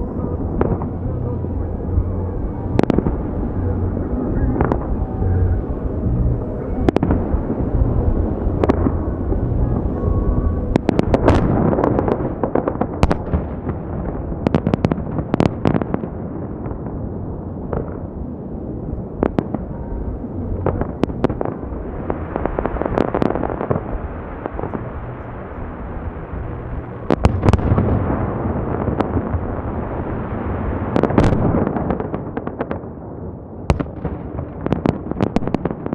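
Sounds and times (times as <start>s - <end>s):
fireworks crackle: 0.0s - 16.0s, 17.7s - 32.9s
low rumble: 0.0s - 31.6s
fireworks bangs: 0.0s - 33.0s, 33.7s - 35.9s.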